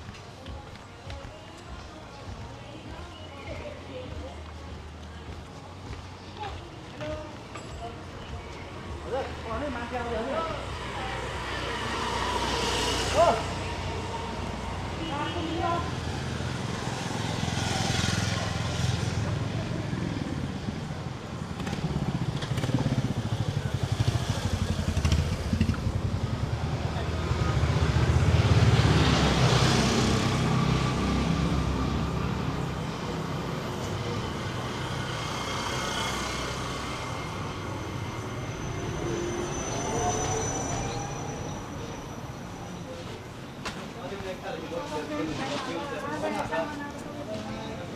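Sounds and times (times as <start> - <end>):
motor vehicles passing: 0.0 - 47.9.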